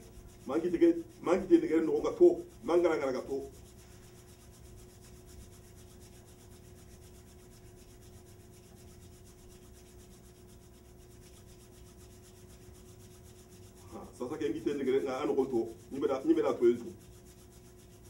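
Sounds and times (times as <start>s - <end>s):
thin steady tone: 0.0s - 18.0s.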